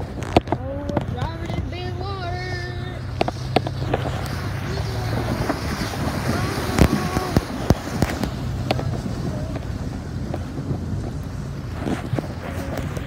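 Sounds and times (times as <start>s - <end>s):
low engine rumble: 0.0s - 13.0s
water splashing and rushing: 0.0s - 13.0s.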